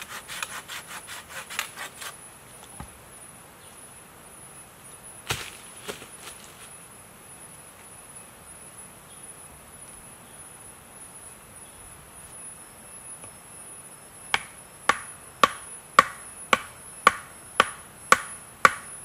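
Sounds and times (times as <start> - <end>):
quiet forest background: 0.0 - 19.0
high-pitched insect trill: 3.1 - 19.0.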